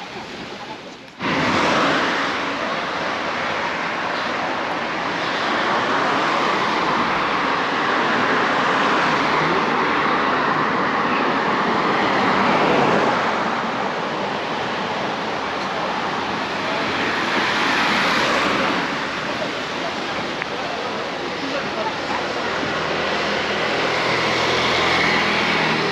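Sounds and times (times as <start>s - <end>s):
car passing with tyre noise: 0.0s - 25.9s
steady outdoor noise: 0.0s - 25.9s.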